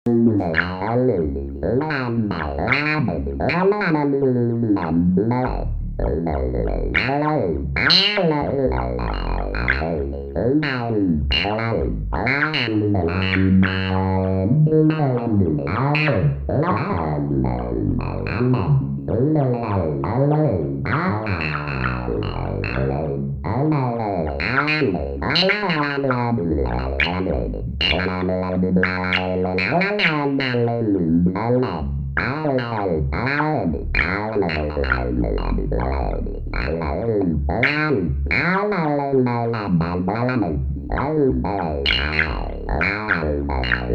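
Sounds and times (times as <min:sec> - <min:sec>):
synthesizer alien-speech effect: 0:00.1 - 0:43.9.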